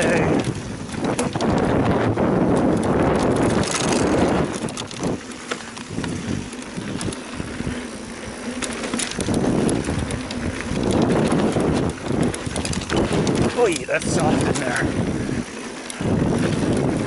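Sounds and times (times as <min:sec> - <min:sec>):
bike rattling and clicking: 0:00.0 - 0:17.0
bike tyre noise: 0:00.0 - 0:17.0
wind on microphone: 0:00.0 - 0:17.0.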